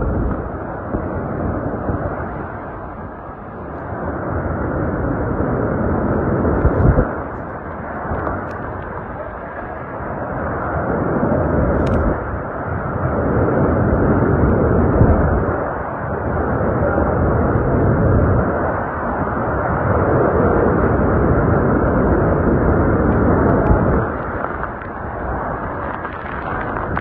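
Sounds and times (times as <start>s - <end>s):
strong wind buffeting microphone: 0.0s - 27.0s.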